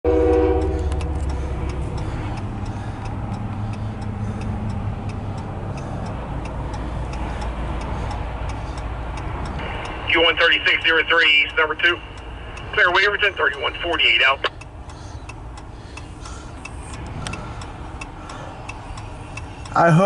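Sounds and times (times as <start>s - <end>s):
low vehicle rumble: 0.1s - 20.0s.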